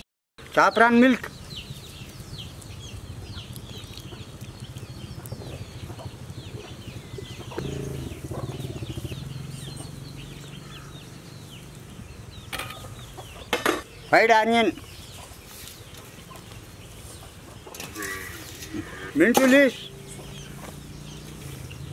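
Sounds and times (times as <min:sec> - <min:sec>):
birds chirping: 0:00.4 - 0:21.9
chickens clucking: 0:00.8 - 0:21.9.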